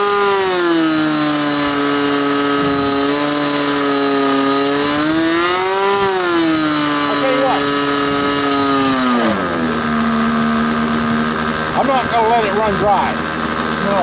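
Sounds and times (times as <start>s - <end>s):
model airplane engine buzzing: 0.0s - 14.0s.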